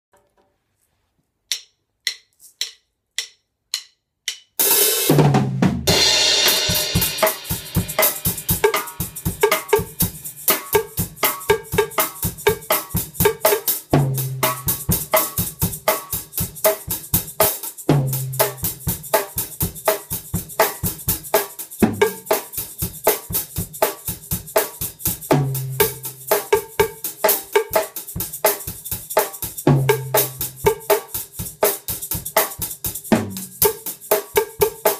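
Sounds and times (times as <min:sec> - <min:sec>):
hand percussion: 0:01.5 - 0:04.9, 0:05.9 - 0:34.9
drum kit bossa nova groove: 0:04.6 - 0:34.9.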